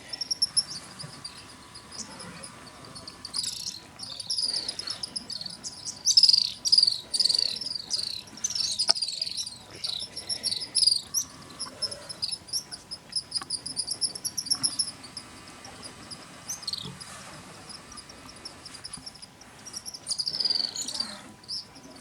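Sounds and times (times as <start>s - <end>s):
insects chirping: 0.0s - 22.0s
rapid pulsing chirp: 0.0s - 22.0s
sliding bird calls: 0.0s - 22.0s
small birds chirping: 0.0s - 22.0s.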